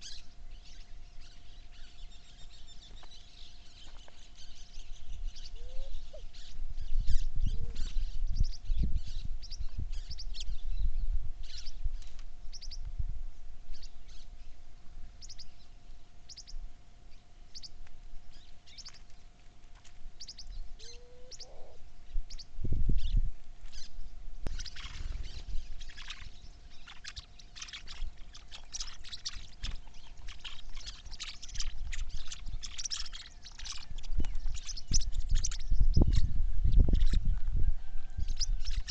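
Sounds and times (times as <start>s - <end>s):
wind rumble on microphone: 0.0s - 15.8s, 19.9s - 27.2s, 27.9s - 38.9s
faint steady hum: 0.0s - 38.9s
small birds chirping: 0.0s - 38.9s.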